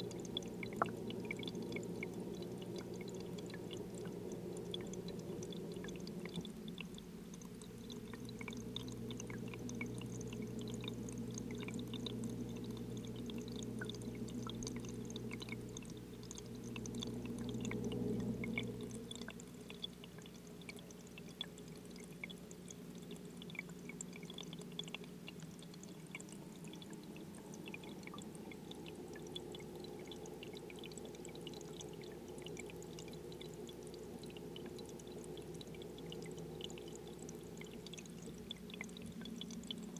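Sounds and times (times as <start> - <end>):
faint ticks and crackles: 0.0 - 39.9
underwater aquarium hum: 0.0 - 39.9.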